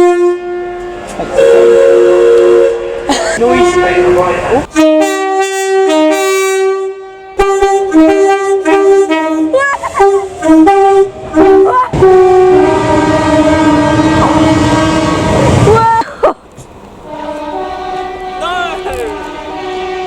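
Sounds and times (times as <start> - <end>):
locomotive air horn: 0.0 - 16.0, 17.0 - 20.0.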